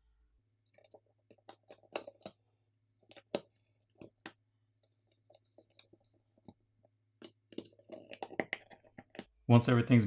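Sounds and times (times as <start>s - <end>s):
plastic parts clicking and tapping: 0.7s - 2.4s, 3.0s - 9.4s.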